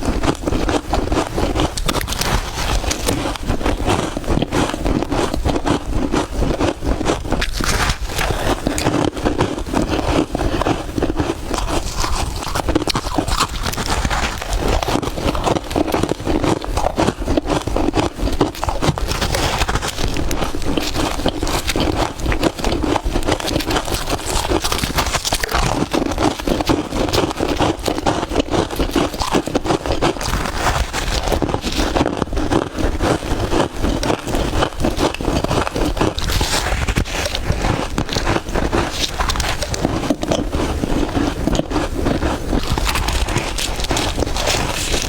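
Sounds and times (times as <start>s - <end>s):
crunching of frost being bitten: 0.0s - 45.0s.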